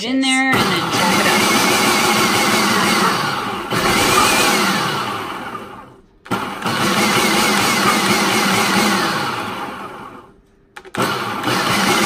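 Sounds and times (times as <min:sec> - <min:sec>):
food processor motor chopping: 0:00.5 - 0:12.0.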